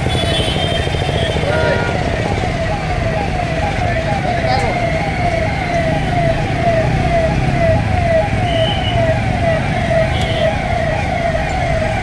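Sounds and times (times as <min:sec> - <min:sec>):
police siren: 0:00.0 - 0:12.0
traffic rumble: 0:00.0 - 0:12.0.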